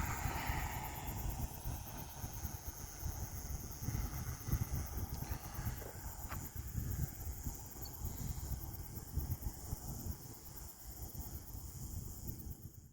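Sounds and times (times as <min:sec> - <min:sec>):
insects trilling: 0:00.0 - 0:12.9.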